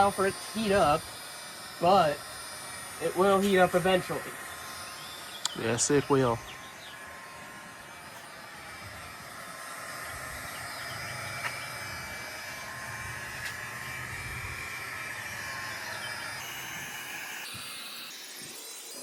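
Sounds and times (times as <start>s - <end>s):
heat gun fan whirring: 0.0s - 19.0s.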